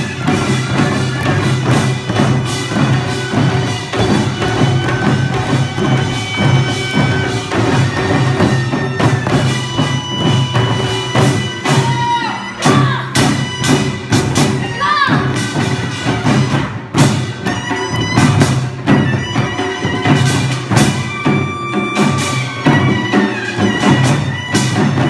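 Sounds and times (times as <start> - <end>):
drums and percussion beat: 0.0 - 25.0
reedy wind instrument: 0.0 - 25.0.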